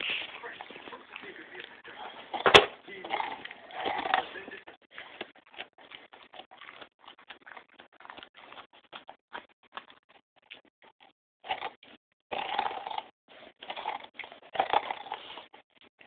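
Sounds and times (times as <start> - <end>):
dog gnawing and crunching pumpkin: 0.0 - 16.0.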